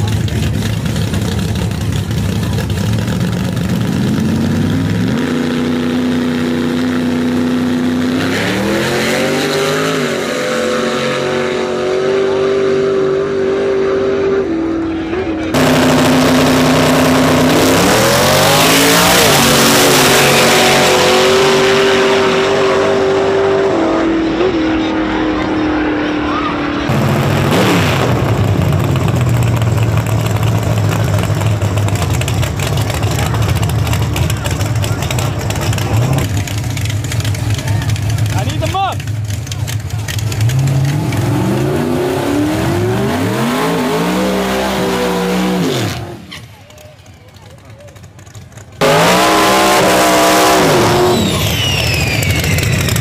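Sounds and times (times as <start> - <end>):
drag racing cars revving: 0.0 - 53.0
race car engines at high pitch: 0.0 - 53.0.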